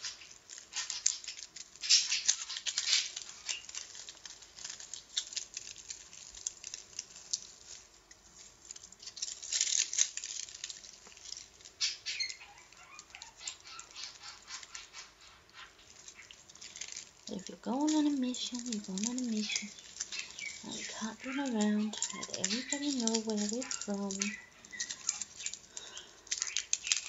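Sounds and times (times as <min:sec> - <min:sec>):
tinfoil crinkling: 0:00.0 - 0:27.0.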